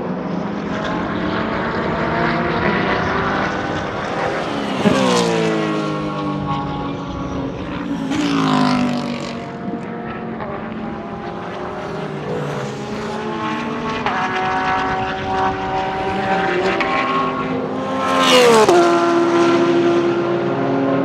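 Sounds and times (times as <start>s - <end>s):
race car engine at speed: 0.0s - 21.0s.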